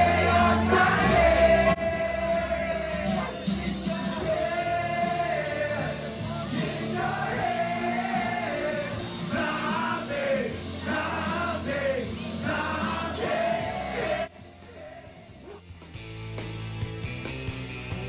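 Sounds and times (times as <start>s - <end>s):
person singing with band: 0.0s - 15.0s.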